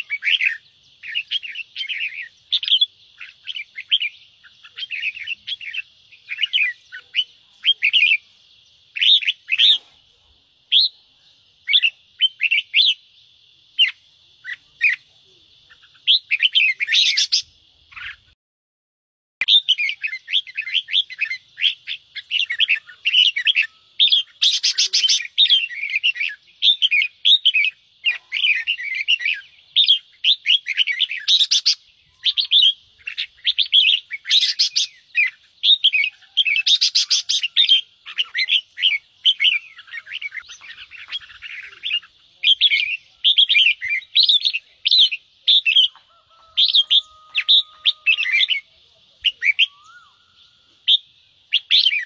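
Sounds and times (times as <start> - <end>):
birds harsh chattering calls: 0.0 - 10.1, 13.8 - 18.4, 19.4 - 52.0.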